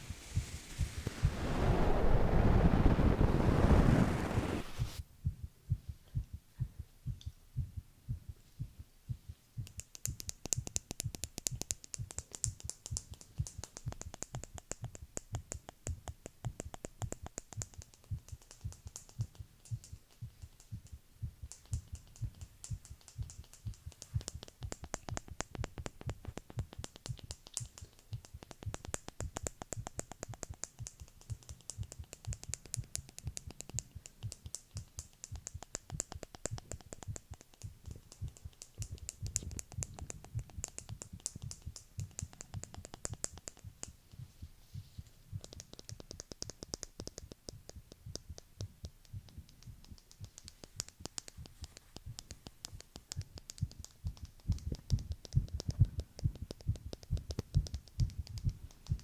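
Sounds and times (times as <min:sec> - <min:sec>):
heartbeat thumps: 0:00.0 - 0:59.0
light crackling clicks: 0:09.6 - 0:44.2, 0:45.0 - 0:59.0.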